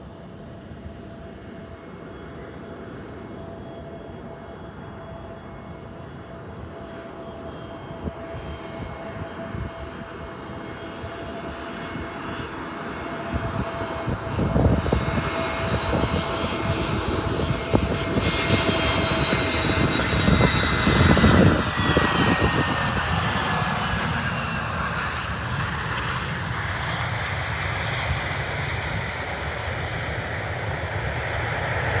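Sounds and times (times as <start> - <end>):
jet airliner passing by: 0.0 - 32.0
jet engine whine falling in pitch: 0.0 - 32.0.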